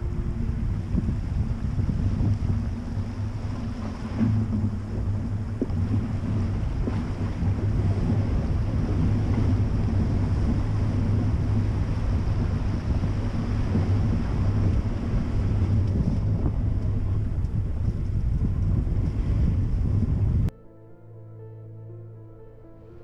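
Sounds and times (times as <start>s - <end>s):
water splashing against car: 0.0s - 20.5s
wind noise on microphone: 0.0s - 20.5s.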